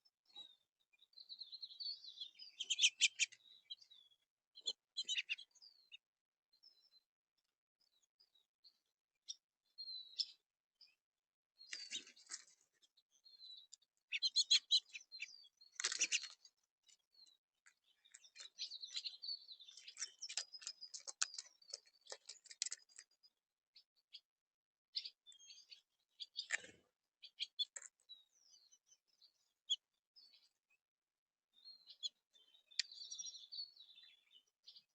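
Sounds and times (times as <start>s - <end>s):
songbirds chirping and ticking: 0.0s - 34.9s.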